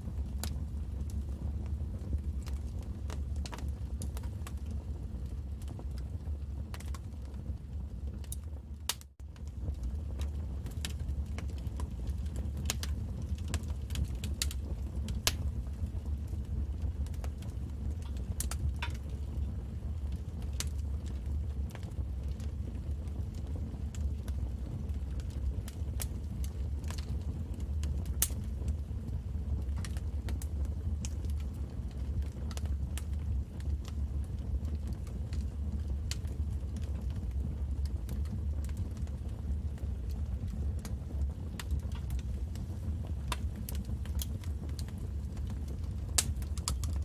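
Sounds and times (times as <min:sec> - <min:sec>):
low rumble of flames: 0:00.0 - 0:47.0
wood fire crackling: 0:00.0 - 0:47.0.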